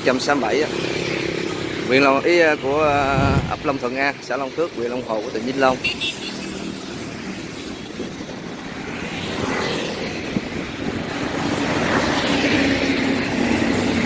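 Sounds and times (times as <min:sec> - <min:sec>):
highway traffic passing: 0:00.0 - 0:14.0.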